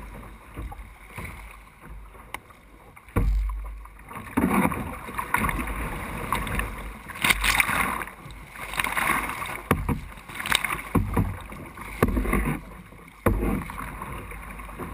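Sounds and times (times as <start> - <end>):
paddle strokes and waves splashing: 0.0 - 14.9
water splashing against kayak hull: 0.0 - 14.9.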